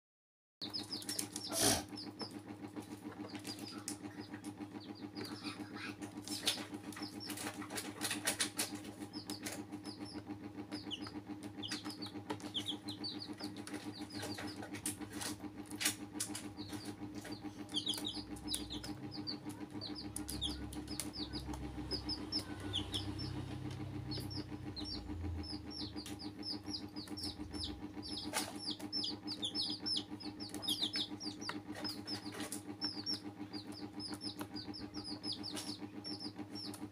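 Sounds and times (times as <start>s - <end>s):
chicks peeping: 0.6s - 36.9s
steady low hum: 0.6s - 36.9s.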